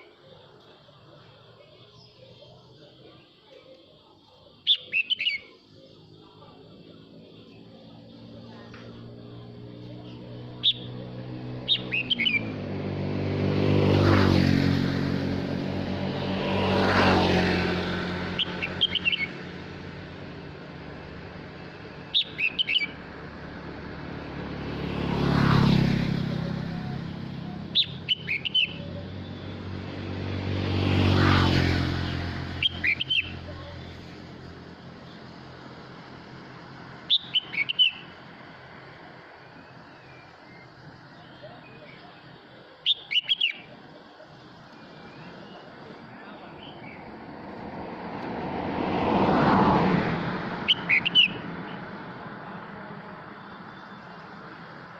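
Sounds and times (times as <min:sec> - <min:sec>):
passing vehicles: 0:00.0 - 0:54.9.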